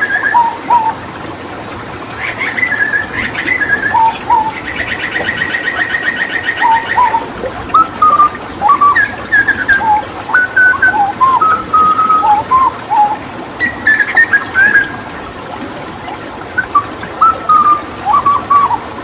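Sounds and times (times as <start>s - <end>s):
bird singing whistled notes: 0.0s - 1.0s, 2.2s - 15.0s, 16.6s - 18.8s
running water: 0.0s - 19.0s.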